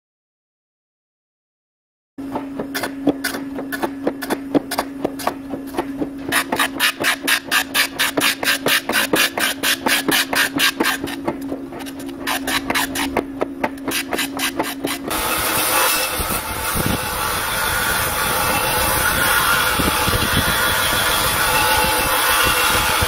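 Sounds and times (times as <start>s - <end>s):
grinder motor hum: 2.2s - 23.0s.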